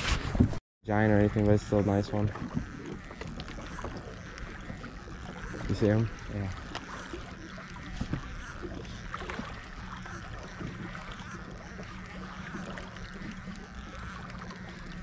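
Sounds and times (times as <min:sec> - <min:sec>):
water and wind noise: 0:00.0 - 0:15.0
boat motor humming: 0:00.9 - 0:15.0
fishing reel ticking: 0:00.9 - 0:15.0.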